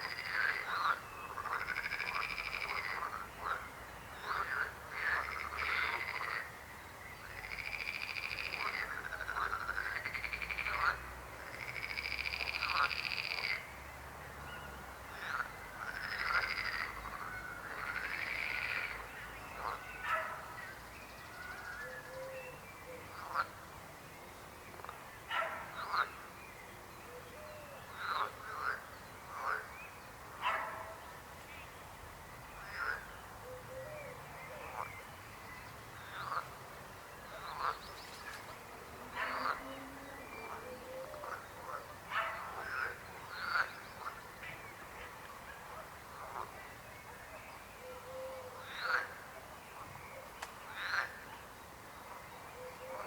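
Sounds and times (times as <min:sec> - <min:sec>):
frogs croaking: 0:00.0 - 0:14.0, 0:15.0 - 0:22.3, 0:23.0 - 0:23.7, 0:24.7 - 0:26.4, 0:27.8 - 0:29.8, 0:32.5 - 0:33.9, 0:35.8 - 0:50.0, 0:50.7 - 0:53.0.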